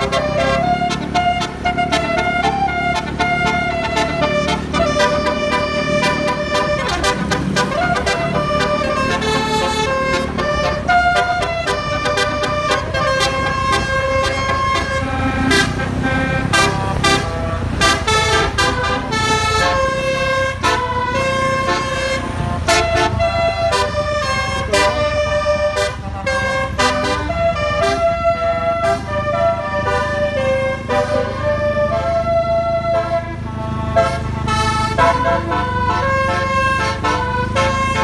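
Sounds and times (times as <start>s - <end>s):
low engine rumble: 0.0s - 38.0s
multi-tone bus horn melody: 0.0s - 38.0s.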